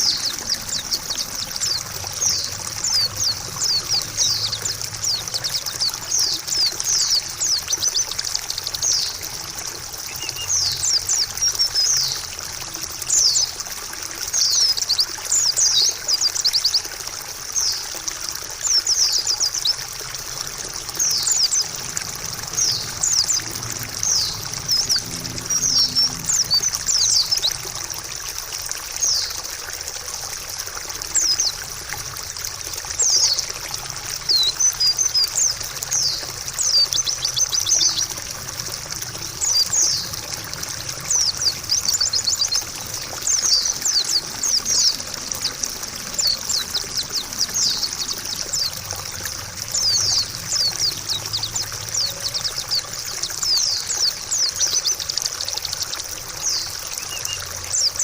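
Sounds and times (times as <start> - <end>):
bird chirps and trills: 0.0 - 29.5, 31.0 - 58.0
running water trickling: 0.0 - 58.0.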